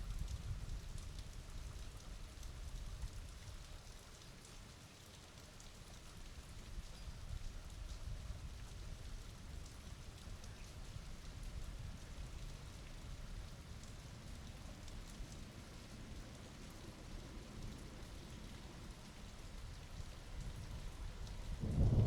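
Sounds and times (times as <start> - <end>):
rain drop ticks: 0.0 - 22.0
steady rain falling: 0.0 - 22.0.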